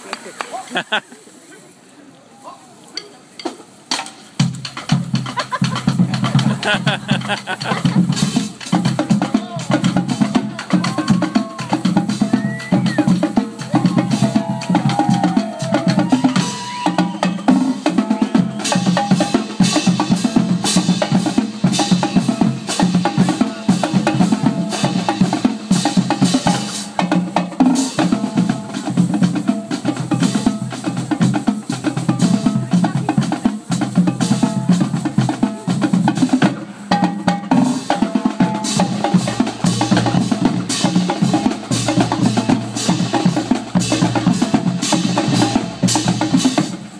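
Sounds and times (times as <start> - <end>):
snare drums: 3.0 - 46.9
bass drums: 4.4 - 46.9.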